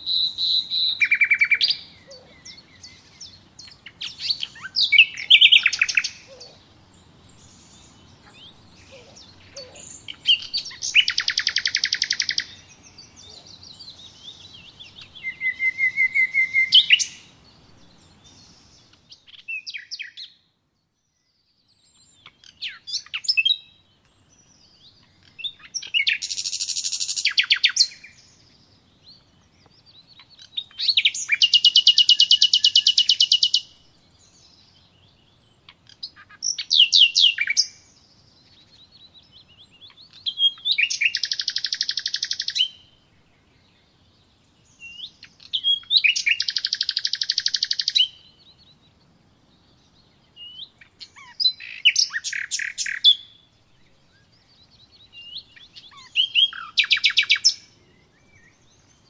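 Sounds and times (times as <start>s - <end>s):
songbird trilling: 0.0s - 20.4s, 21.8s - 42.9s, 44.7s - 48.8s, 49.6s - 59.0s.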